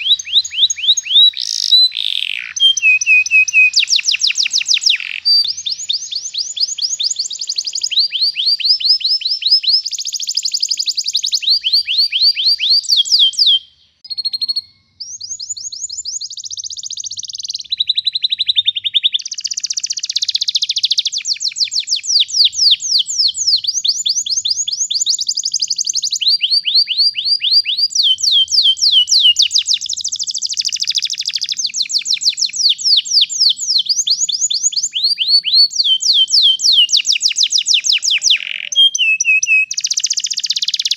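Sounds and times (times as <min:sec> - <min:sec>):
canary singing rolling trills: 0:00.0 - 0:40.9.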